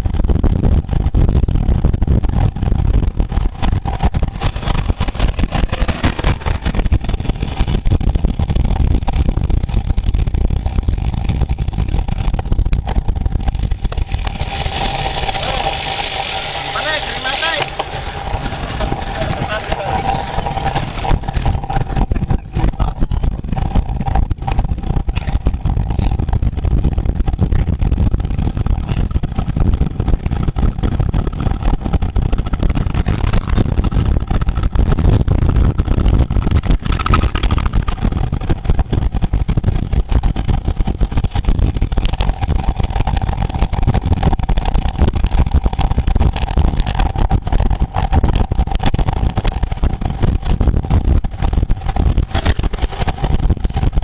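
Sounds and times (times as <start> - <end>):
steady mid-pitched hum: 0.0 - 54.0
wind rumble on microphone: 0.0 - 54.0.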